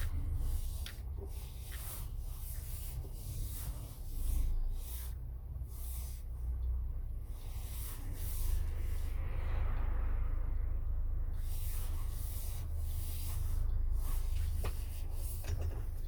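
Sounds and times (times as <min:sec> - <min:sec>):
road noise rumble: 0:00.0 - 0:16.0.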